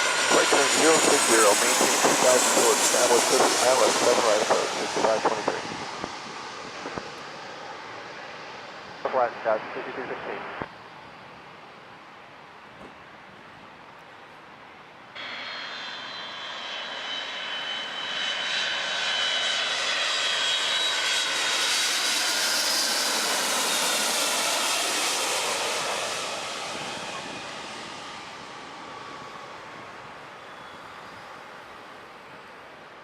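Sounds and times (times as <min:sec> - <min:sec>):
jet airliner passing: 0:00.0 - 0:12.6, 0:15.2 - 0:32.9.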